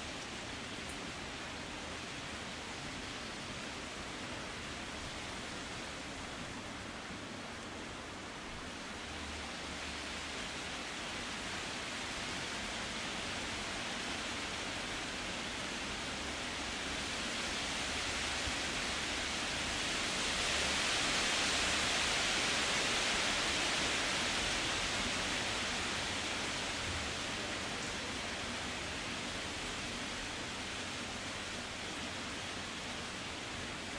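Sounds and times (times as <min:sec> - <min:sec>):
wind blowing through trees: 0:00.0 - 0:33.9.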